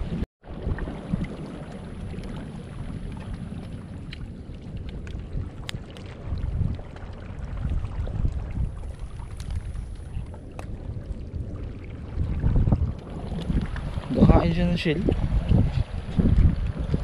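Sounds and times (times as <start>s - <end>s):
seawater sloshing and lapping: 0.0s - 17.0s
wind rumble on microphone: 0.0s - 17.0s.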